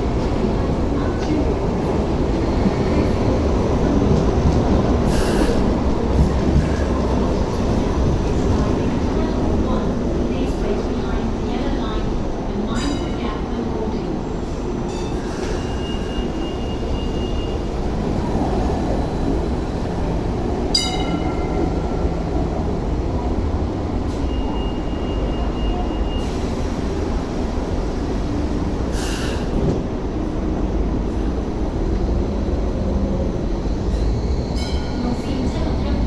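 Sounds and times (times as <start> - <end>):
train cars rumbling: 0.0 - 36.0.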